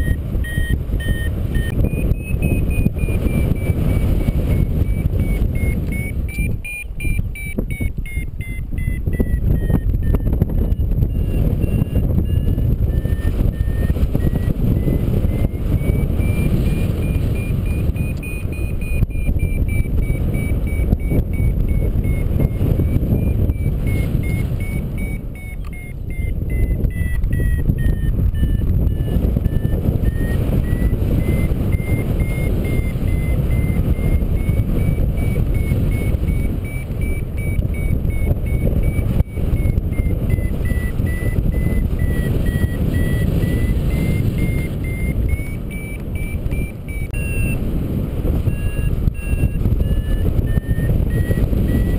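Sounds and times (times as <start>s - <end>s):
variometer beeping: 0.0s - 51.9s
wind rushing over microphone: 0.0s - 51.9s.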